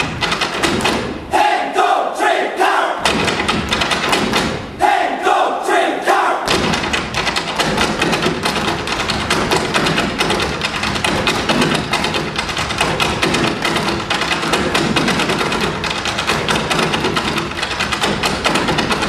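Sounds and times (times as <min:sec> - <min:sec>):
hard-shoe dance taps: 0:00.0 - 0:01.2, 0:03.0 - 0:04.7, 0:06.4 - 0:19.0.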